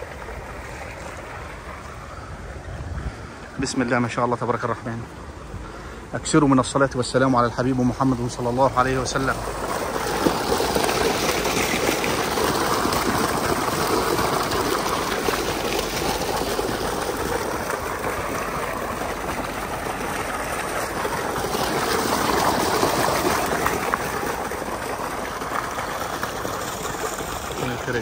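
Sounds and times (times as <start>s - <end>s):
water gushing into stone pool: 0.0s - 28.0s.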